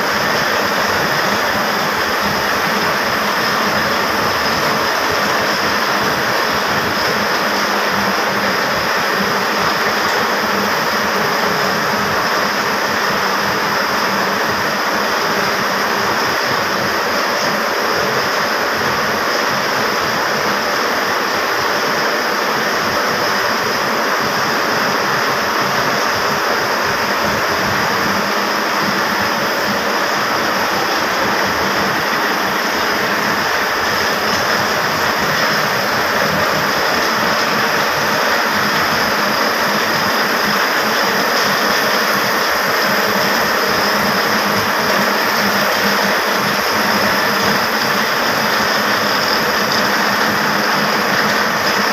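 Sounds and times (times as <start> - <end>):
textile mill machinery din: 0.0 - 51.9.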